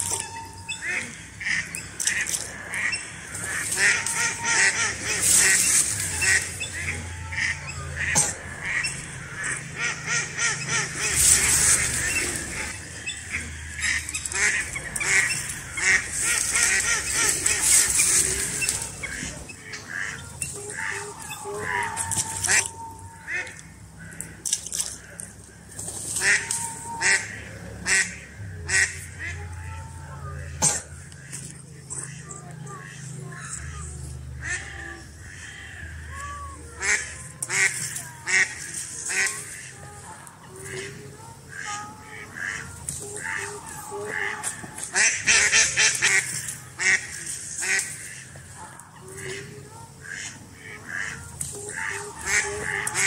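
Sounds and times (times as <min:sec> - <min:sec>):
ducks quacking: 0:00.0 - 0:53.0
waterfowl calling: 0:00.0 - 0:53.0.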